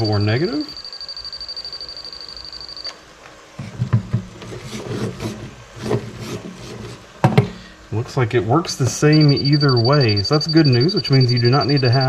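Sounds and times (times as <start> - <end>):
steady high whine: 0.0 - 6.0, 6.9 - 12.0.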